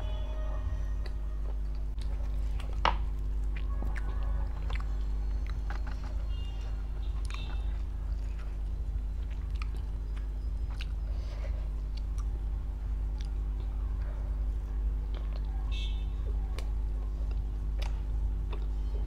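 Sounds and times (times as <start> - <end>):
steady low hum: 0.0 - 19.0
chewing food: 0.9 - 19.0.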